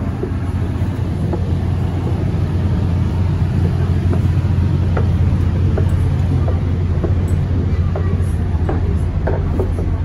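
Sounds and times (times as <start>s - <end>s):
train coach rumbling on track: 0.0s - 10.0s.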